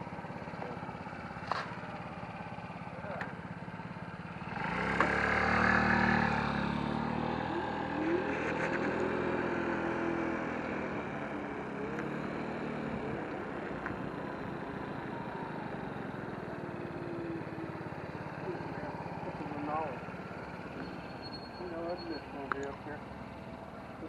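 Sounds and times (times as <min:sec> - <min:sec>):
motor vehicle passing by: 0:00.0 - 0:24.0.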